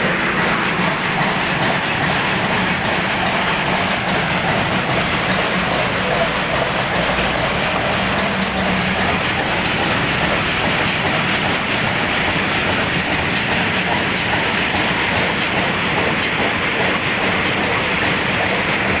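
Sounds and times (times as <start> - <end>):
sorting machine rattling: 0.0 - 19.0.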